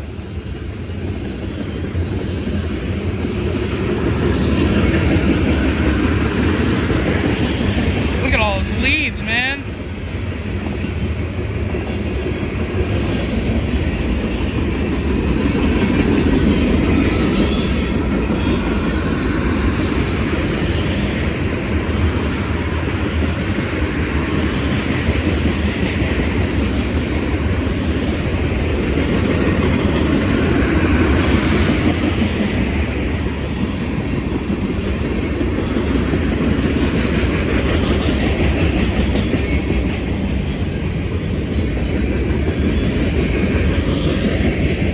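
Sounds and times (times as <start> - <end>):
train wheels rumbling over rails: 0.0 - 44.9.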